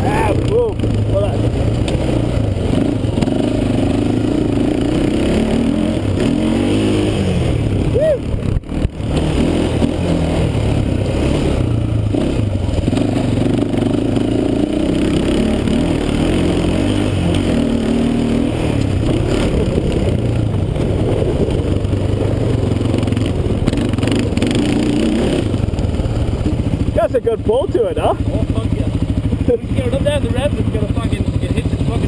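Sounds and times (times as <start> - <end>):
quad engine revving: 0.0 - 32.0.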